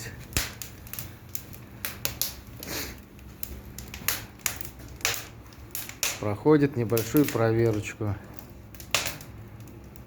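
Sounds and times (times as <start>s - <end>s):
firewood crackling and popping: 0.0s - 10.0s.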